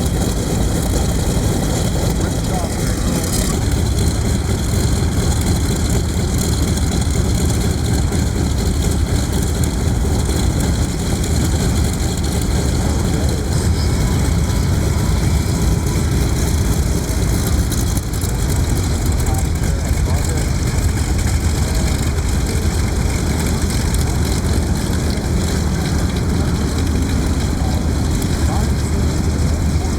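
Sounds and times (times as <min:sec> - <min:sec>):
radial engine idling: 0:00.0 - 0:29.9.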